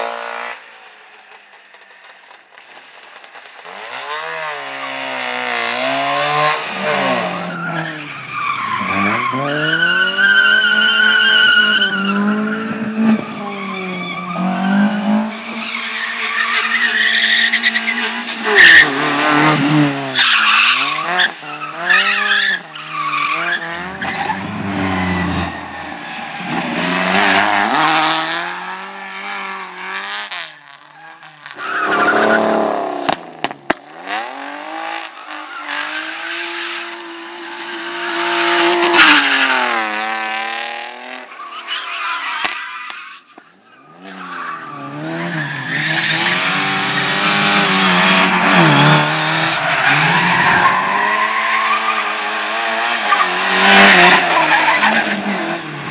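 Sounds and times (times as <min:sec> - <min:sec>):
car engines revving: 0:03.1 - 0:42.6, 0:43.7 - 0:55.9
tyres squealing and skidding: 0:04.7 - 0:33.0, 0:34.4 - 0:55.9.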